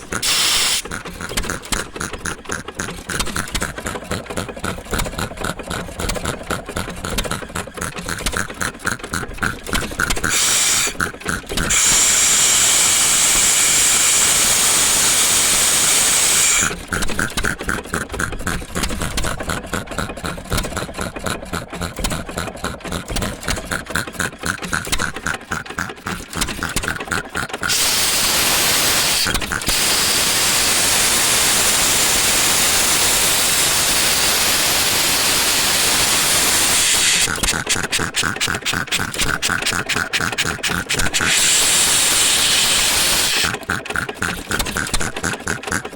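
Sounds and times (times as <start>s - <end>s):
engine running with regular strokes: 0.0s - 45.9s.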